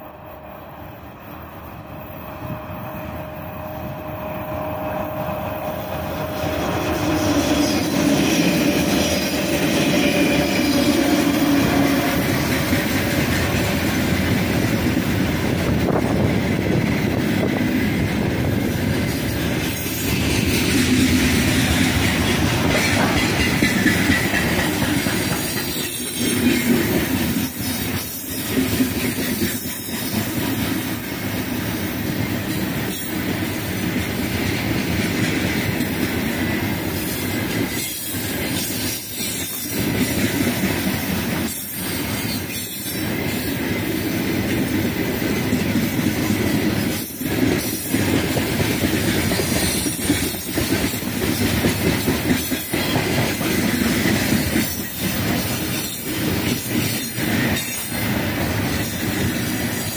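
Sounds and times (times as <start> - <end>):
electric locomotive passing: 0.0 - 59.9
freight train wheels clattering: 0.0 - 59.9.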